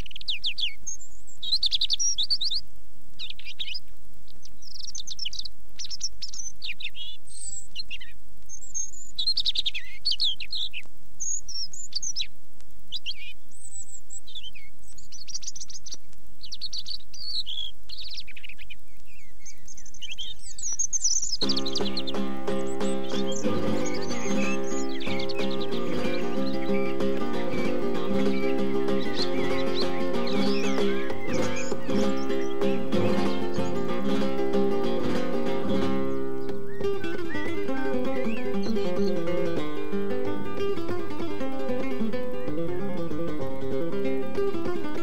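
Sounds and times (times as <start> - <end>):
recorded songbird singing: 0.0 - 45.0.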